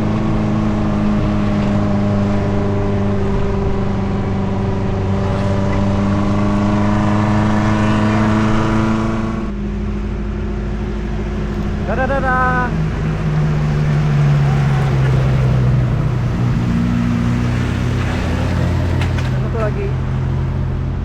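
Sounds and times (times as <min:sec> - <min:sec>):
car engine running under load: 0:00.0 - 0:21.0.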